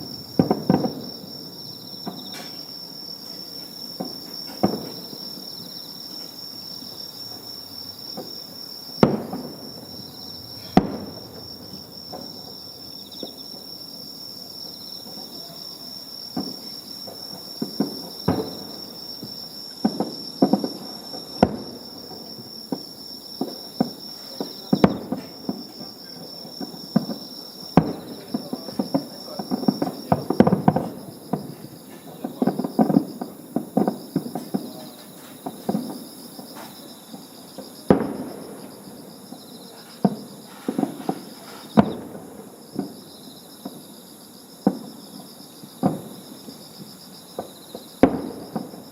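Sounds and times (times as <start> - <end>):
fireworks bangs and crackles: 0.0 - 48.9
insects chirring: 0.0 - 48.9.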